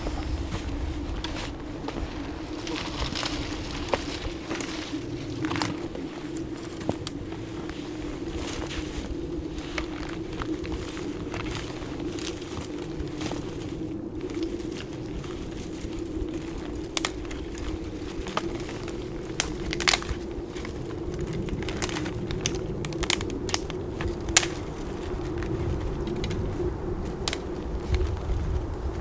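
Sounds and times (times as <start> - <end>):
steady low hum: 0.0 - 29.0
twigs snapping and crunching: 0.0 - 29.0.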